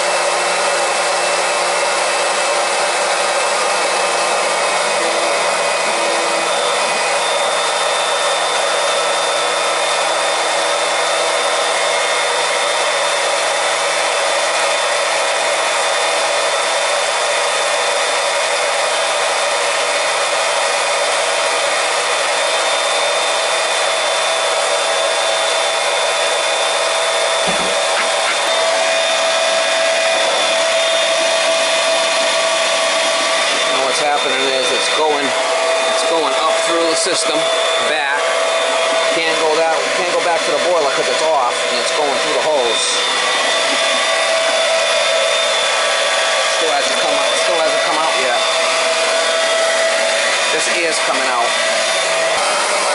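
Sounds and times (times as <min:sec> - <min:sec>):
electric pump running: 0:00.0 - 0:52.9.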